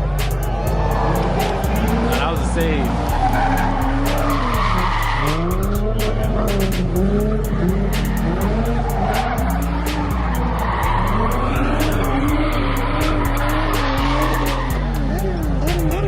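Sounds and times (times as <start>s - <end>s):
car engine revving: 0.0s - 16.0s
music with steady beat: 0.0s - 16.0s
tyres squealing: 0.4s - 16.0s.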